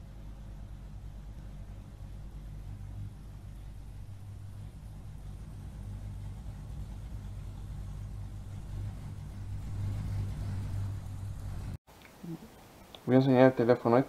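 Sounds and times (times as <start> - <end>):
steady low-pitched hum: 0.0 - 13.0.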